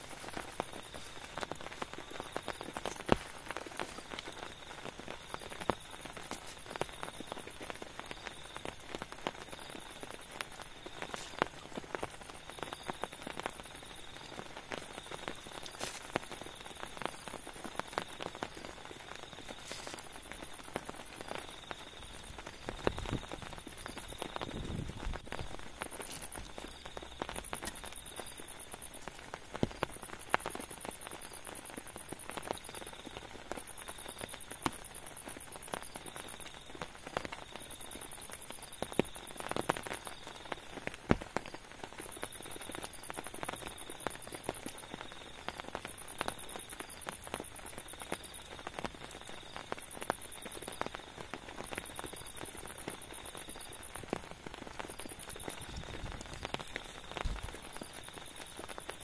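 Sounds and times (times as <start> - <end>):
insects trilling: 0.0 - 59.0
raindrops tapping on a tent: 0.0 - 59.0.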